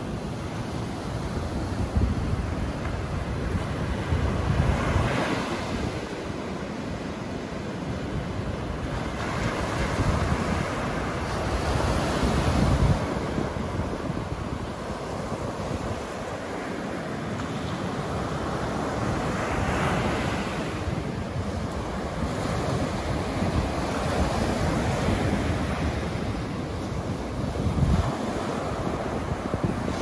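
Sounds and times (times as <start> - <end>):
small waves breaking on sand: 0.0 - 30.0
wind rumbling on microphone: 0.0 - 30.0.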